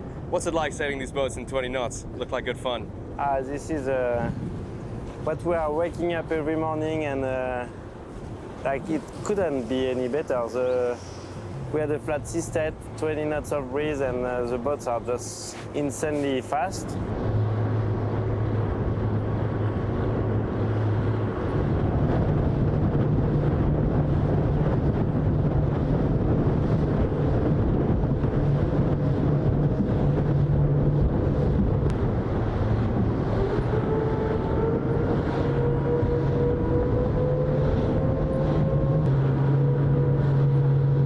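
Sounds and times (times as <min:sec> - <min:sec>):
boat engine hum: 0:00.0 - 0:41.0
wind noise on microphone: 0:00.0 - 0:41.0.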